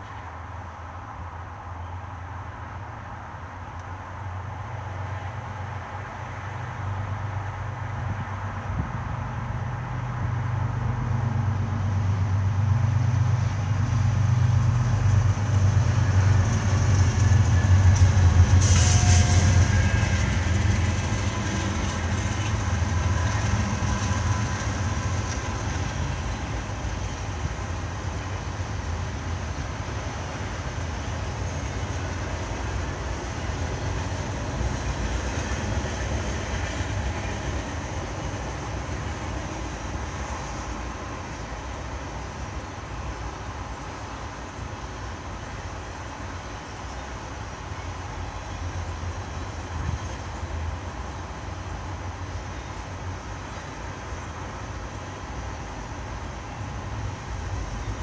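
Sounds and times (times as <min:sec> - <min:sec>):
diesel locomotive engine drone: 0:00.0 - 0:58.0
freight cars rumbling by: 0:04.3 - 0:58.0.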